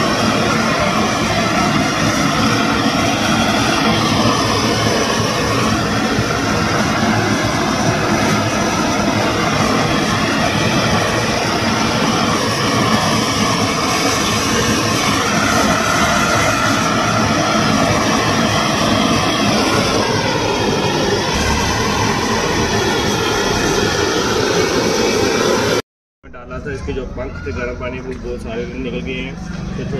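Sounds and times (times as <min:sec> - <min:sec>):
gas blowtorch burning: 0:00.0 - 0:25.8.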